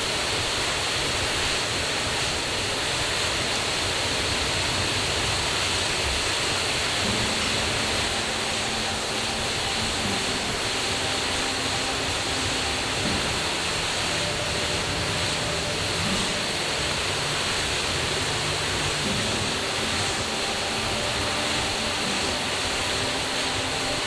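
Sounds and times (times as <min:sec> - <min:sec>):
rushing stream and waterfall: 0:00.0 - 0:24.0.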